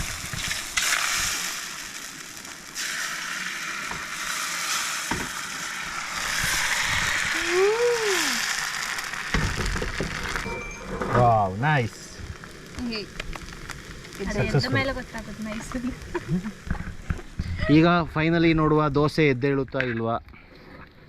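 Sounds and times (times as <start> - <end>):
batter sizzling on a hot pan: 0.0 - 18.0.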